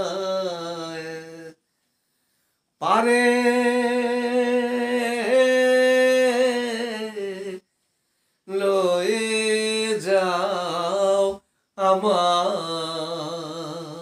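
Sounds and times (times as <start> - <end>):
man singing unaccompanied: 0.0 - 1.7, 2.8 - 7.7, 8.4 - 14.0.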